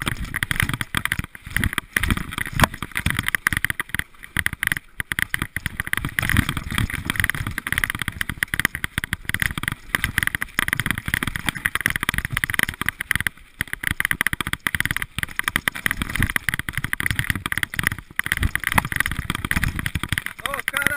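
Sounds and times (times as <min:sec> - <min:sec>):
bike rattling over rough ground: 0:00.0 - 0:20.9.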